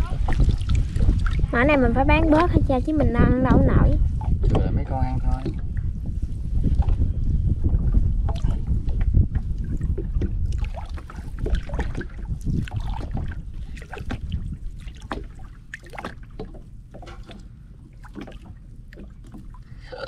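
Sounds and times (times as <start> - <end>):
water splashing around boat: 0.0 - 20.0
wind rumbling on microphone: 0.0 - 20.0.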